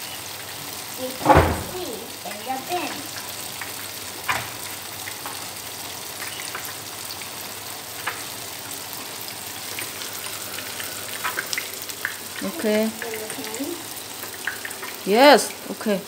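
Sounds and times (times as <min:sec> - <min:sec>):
tofu sizzling in oil: 0:00.0 - 0:16.0.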